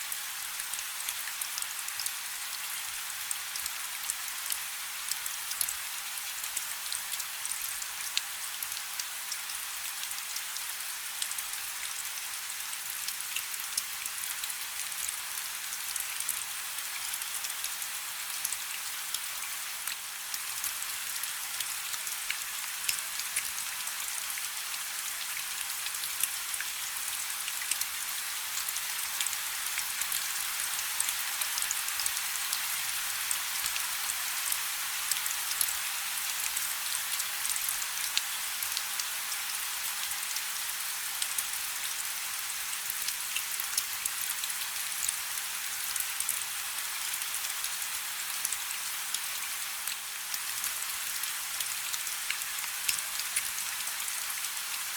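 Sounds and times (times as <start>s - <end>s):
light rain falling: 0.0s - 54.9s.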